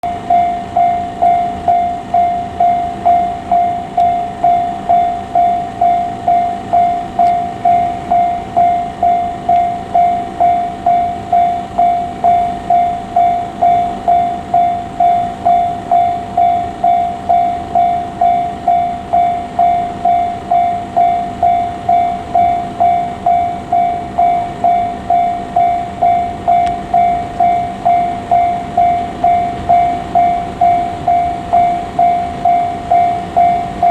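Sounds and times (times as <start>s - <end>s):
level crossing warning bell ringing: 0.0s - 33.9s.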